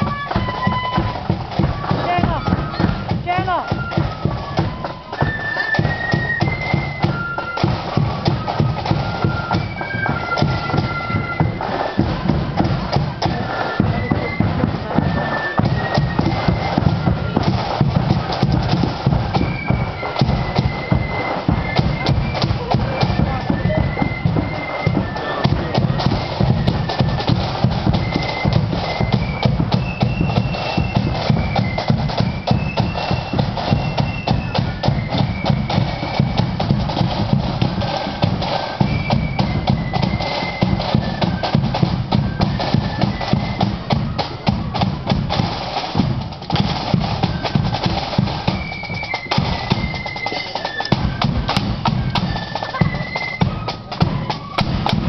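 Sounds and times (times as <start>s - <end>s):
high stepping melody: 0.0s - 55.0s
snare and bass drums marching: 0.0s - 55.0s.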